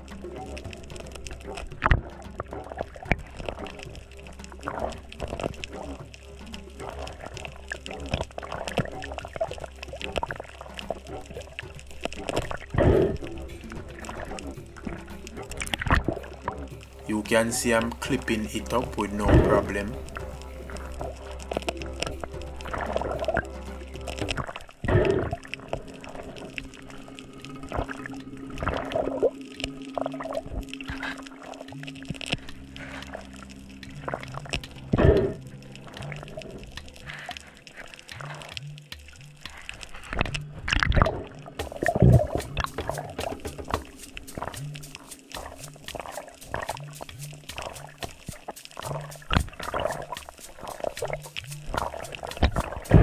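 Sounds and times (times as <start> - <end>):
muffled underwater sounds: 0.0 - 53.0
water sloshing and bubbling: 0.0 - 53.0.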